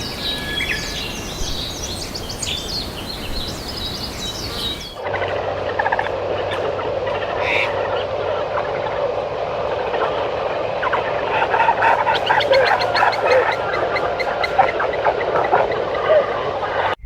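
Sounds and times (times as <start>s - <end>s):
frogs chirping and clicking: 0.0s - 17.0s
steady hum: 0.0s - 17.0s.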